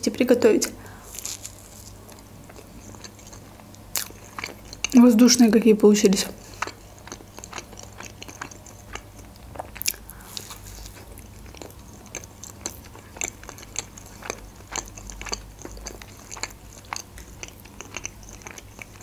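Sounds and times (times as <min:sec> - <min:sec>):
person chewing pancake: 0:00.8 - 0:05.0, 0:06.4 - 0:19.0.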